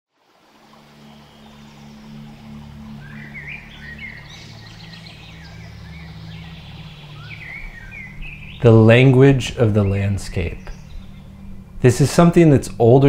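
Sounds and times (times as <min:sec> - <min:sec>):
low steady hum: 0:00.3 - 0:13.0
birds chirping and singing: 0:00.7 - 0:12.9.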